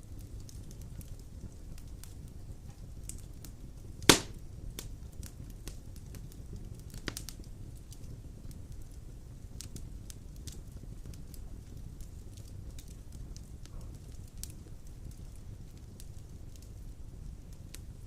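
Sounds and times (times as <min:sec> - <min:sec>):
fire popping: 0:00.0 - 0:18.0
wood fire rumbling and crackling: 0:00.0 - 0:18.0.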